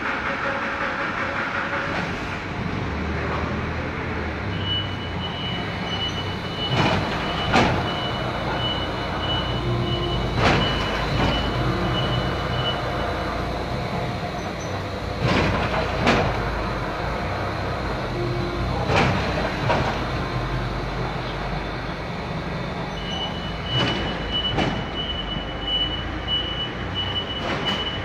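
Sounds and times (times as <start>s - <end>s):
machinery rumble and hum: 0.0s - 28.0s.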